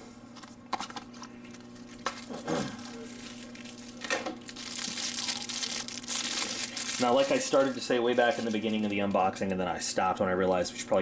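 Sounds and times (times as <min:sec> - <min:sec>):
packaging rustling and crinkling: 0:00.8 - 0:09.7.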